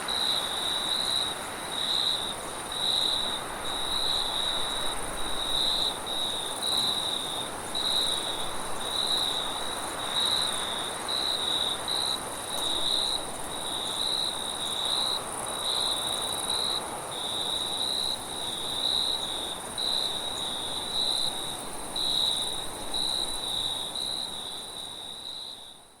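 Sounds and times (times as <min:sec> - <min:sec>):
steady high hiss: 0:00.0 - 0:25.3
crickets chirping: 0:00.0 - 0:26.0.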